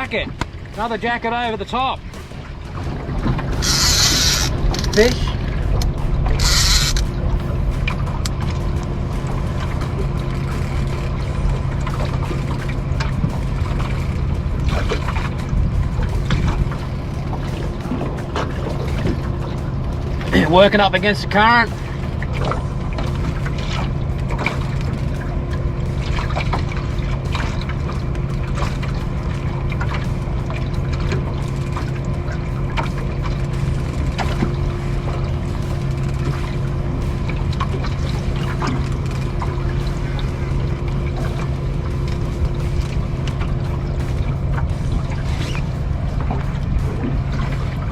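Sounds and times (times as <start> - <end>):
constant thin tone: 0.0 - 47.9
low hum: 0.0 - 47.9
rain: 0.0 - 47.9
wind noise: 0.0 - 47.9.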